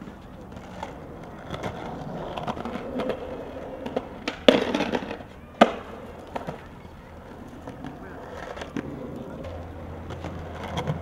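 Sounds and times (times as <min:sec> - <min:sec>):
skateboard clacks on concrete: 0:00.0 - 0:11.0.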